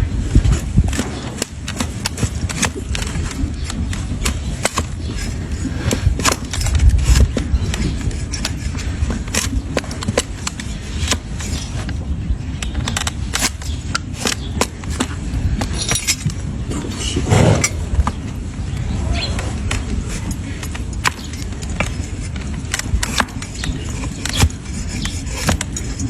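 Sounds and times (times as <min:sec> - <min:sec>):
hand tools scraping hoof: 0:00.4 - 0:12.0, 0:12.6 - 0:17.8, 0:19.6 - 0:26.0.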